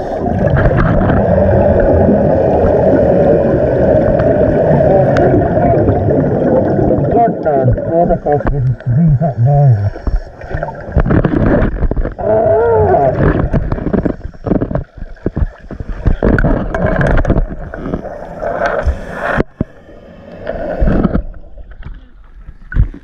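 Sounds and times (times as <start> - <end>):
underwater exhaled bubbles: 0.0 - 23.0
water churning underwater: 0.0 - 23.0.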